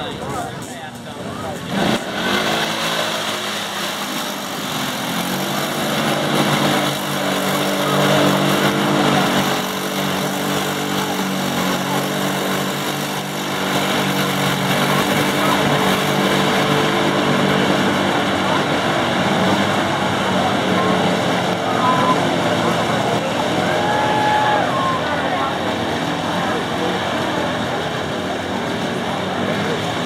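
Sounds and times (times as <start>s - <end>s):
atv engines revving high: 0.0s - 30.0s
quads driving through mud: 0.0s - 30.0s.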